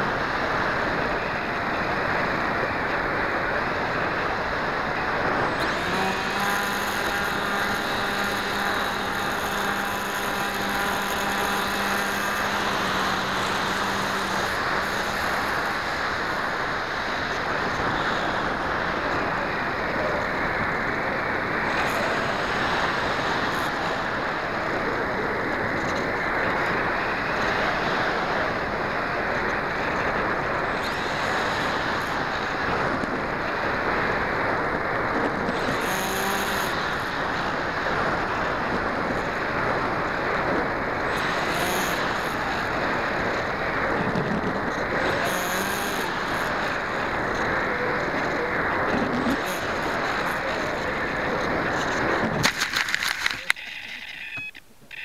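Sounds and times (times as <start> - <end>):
wind rushing on microphone: 0.0 - 53.5
steady hum with overtones: 0.0 - 55.0.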